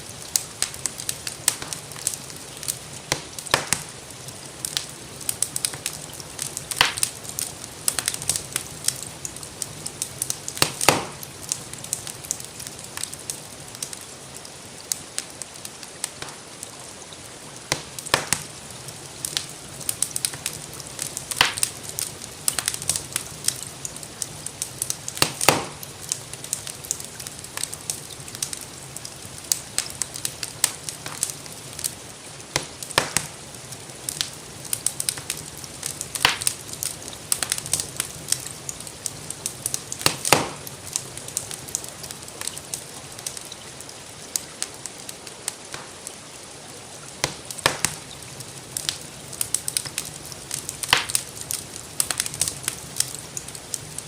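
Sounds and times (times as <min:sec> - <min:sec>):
gentle rain hiss: 0:00.0 - 0:54.0
wood fire crackling and popping: 0:00.0 - 0:54.0.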